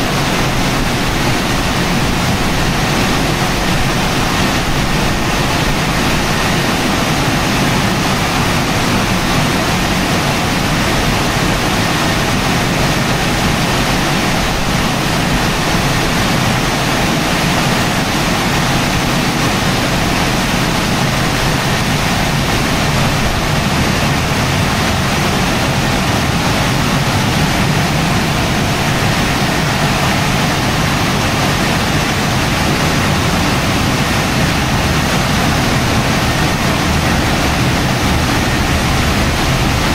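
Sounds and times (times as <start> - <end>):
car wash drying blowers: 0.0 - 39.9.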